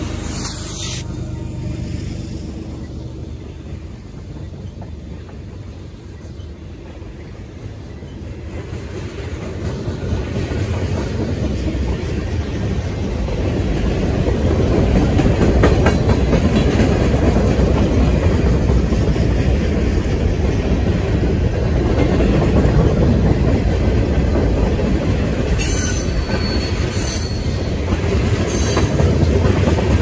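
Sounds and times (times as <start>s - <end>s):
freight train wheels rumbling and clacking: 0.0s - 30.0s.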